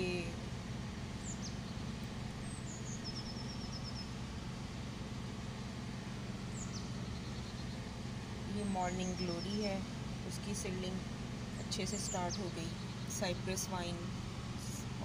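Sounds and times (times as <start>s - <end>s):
low background hum: 0.0s - 15.0s
songbird singing: 0.0s - 15.0s.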